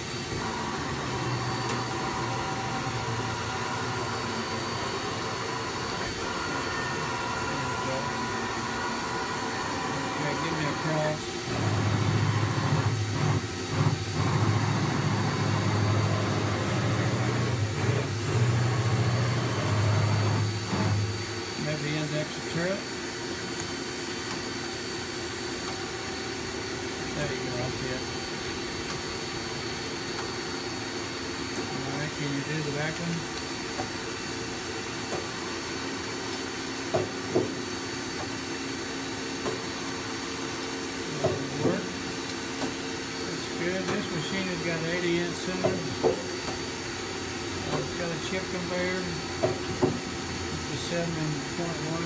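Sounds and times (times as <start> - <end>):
lathe machine hum: 0.0 - 52.0.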